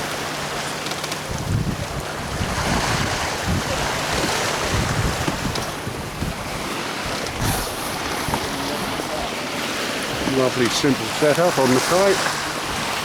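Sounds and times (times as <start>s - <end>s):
water rushing past hull: 0.0s - 13.0s
wind buffeting microphone: 1.2s - 11.9s.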